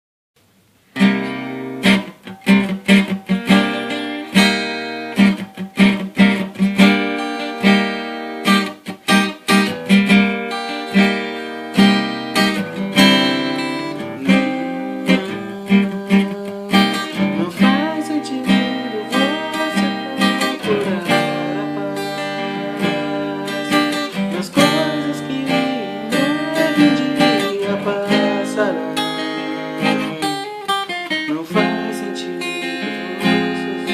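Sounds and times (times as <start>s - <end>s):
acoustic guitar strumming chords: 0.9s - 33.9s.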